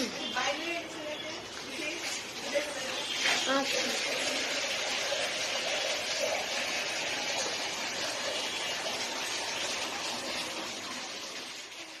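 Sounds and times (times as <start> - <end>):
water-like rushing noise: 0.0 - 12.0.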